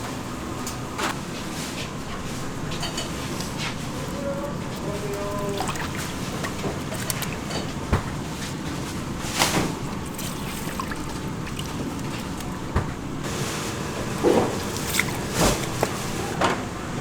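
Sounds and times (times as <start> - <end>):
liquid bubbling: 2.7 - 16.4.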